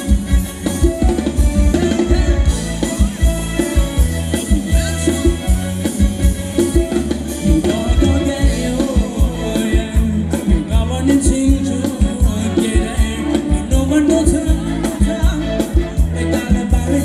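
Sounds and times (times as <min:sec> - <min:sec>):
driving drum beat: 0:00.0 - 0:17.0
live band playing dance music: 0:00.0 - 0:17.0.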